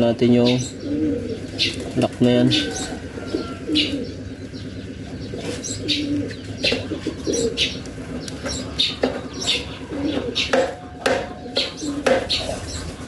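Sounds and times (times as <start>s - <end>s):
doves cooing: 0.0s - 13.0s
small birds chirping: 0.0s - 13.0s.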